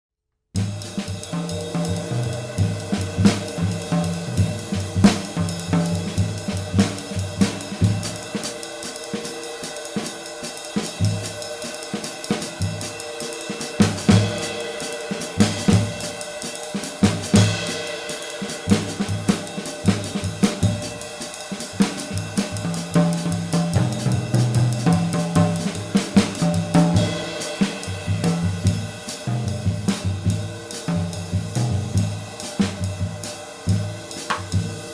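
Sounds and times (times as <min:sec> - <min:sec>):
drum kit groove: 0:00.6 - 0:34.9
ride cymbal shimmering: 0:00.8 - 0:34.9.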